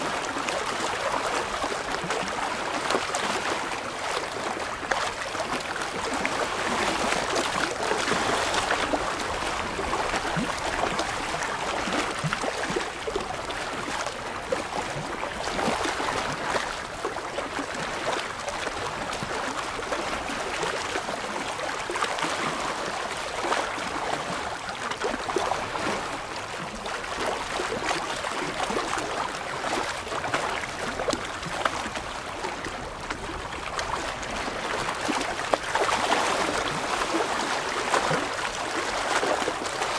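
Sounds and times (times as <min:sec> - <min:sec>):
small waves lapping on rocks: 0:00.0 - 0:39.9.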